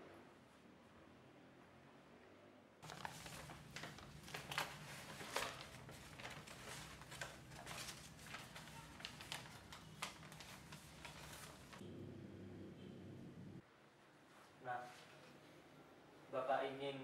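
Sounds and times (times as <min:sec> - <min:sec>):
low room hum: 0:00.0 - 0:16.8.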